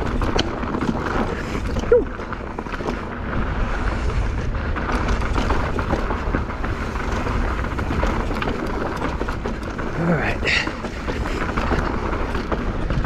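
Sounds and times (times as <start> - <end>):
bike clicks and rattles: 0.0 - 13.0
tyres rushing over dirt: 0.0 - 13.0
wind rumbling on microphone: 0.0 - 13.0.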